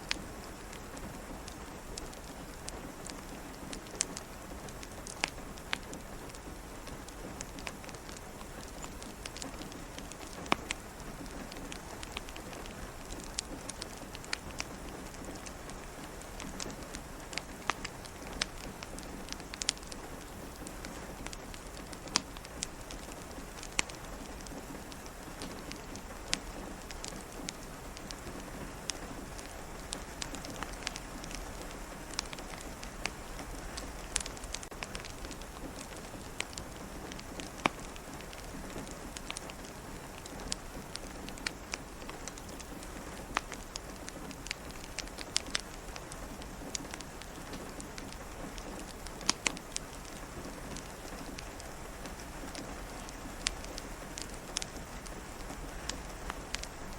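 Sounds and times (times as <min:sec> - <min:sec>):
rain pattering: 0:00.0 - 0:56.9
wood fire crackling: 0:00.0 - 0:56.9.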